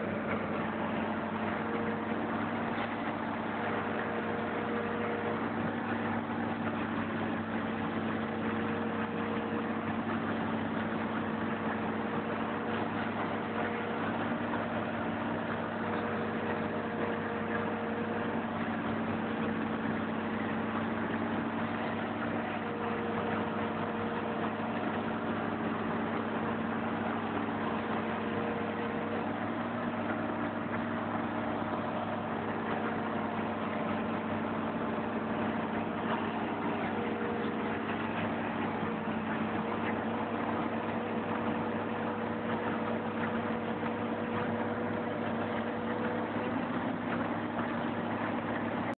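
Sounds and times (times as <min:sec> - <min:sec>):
excavator diesel engine running: 0:00.0 - 0:48.9
higher engine tone: 0:00.0 - 0:48.9.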